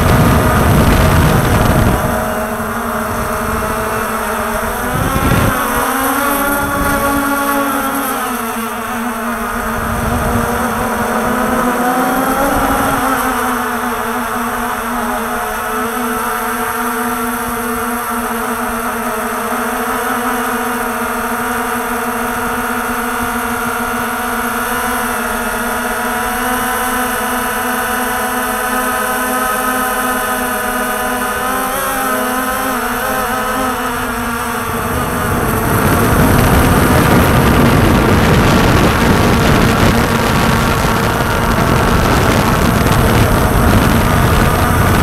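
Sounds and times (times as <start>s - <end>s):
drone motors and propellers whining: 0.0s - 45.0s.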